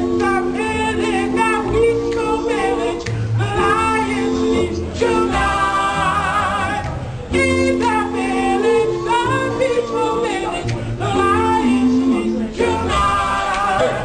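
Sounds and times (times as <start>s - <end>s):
men singing in close harmony: 0.0s - 14.0s.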